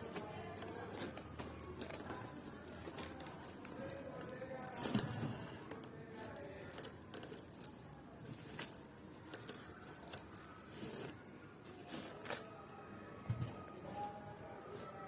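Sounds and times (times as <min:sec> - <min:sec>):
rustling and crinkling: 0:00.0 - 0:15.0.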